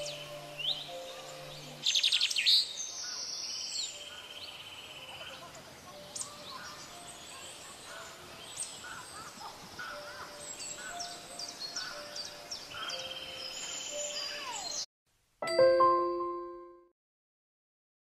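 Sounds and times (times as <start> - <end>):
birds chirping and whistling: 0.0 - 14.9.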